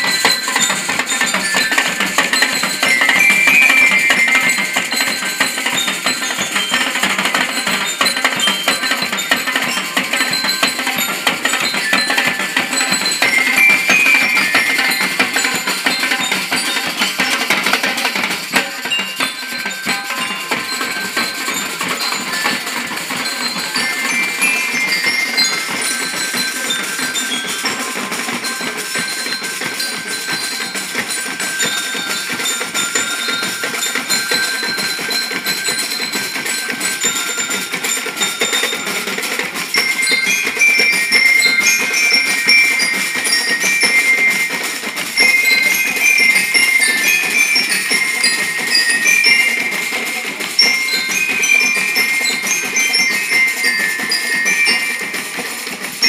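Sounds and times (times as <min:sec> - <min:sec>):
high bell-like melody: 0:00.0 - 0:56.0
snare drums beating: 0:00.0 - 0:56.0.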